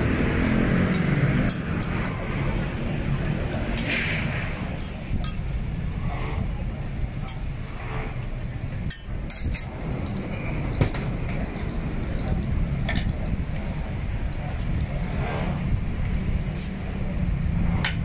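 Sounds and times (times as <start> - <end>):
low traffic rumble: 0.0 - 18.0.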